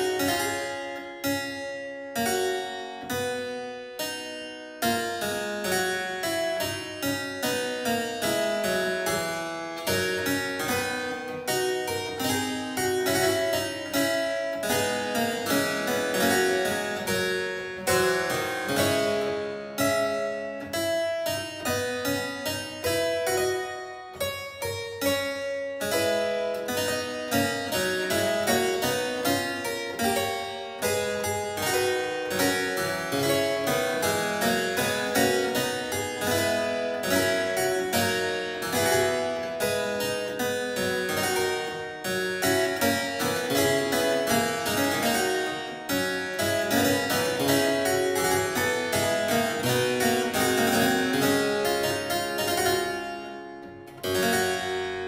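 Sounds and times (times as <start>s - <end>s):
harpsichord playing: 0.0s - 55.0s.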